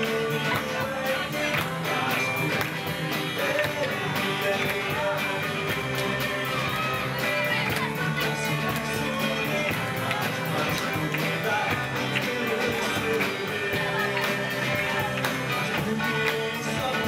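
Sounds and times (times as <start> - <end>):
bass guitar: 0.0 - 17.0
drum kit with cymbal beat: 0.0 - 17.0
electric guitars: 0.0 - 17.0
young man singing: 0.0 - 17.0.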